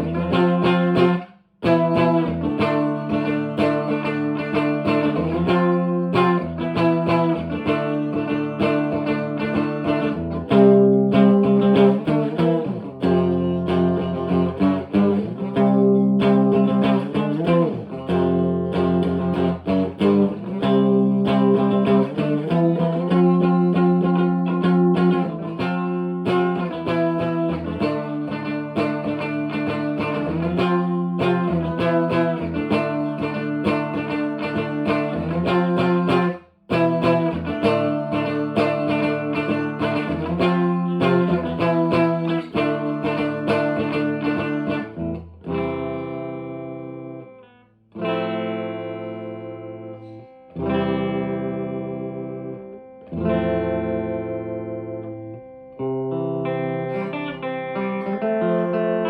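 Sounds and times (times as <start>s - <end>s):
electric guitar notes and chords: 0.0s - 59.0s.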